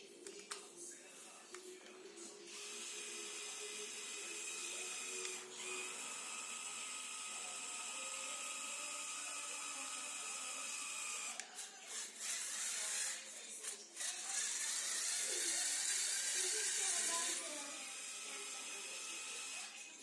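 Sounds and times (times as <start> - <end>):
small electric motors whining: 2.5 - 20.0.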